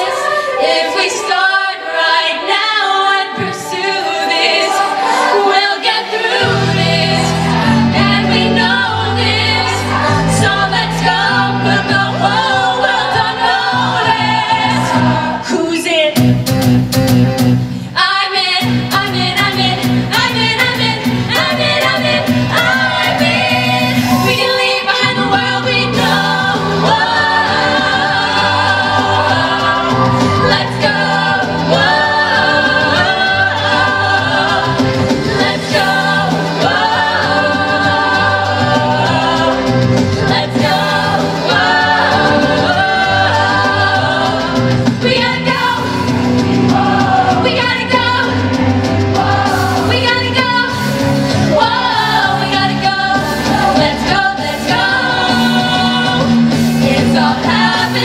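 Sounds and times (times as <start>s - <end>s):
choir singing with accompaniment: 0.0s - 16.6s, 17.6s - 58.0s.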